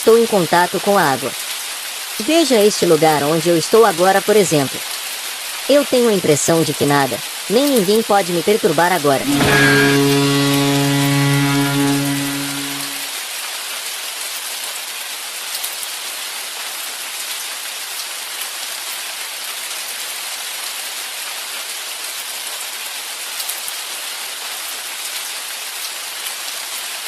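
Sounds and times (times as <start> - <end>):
steady rain: 0.0 - 9.1, 9.7 - 27.0.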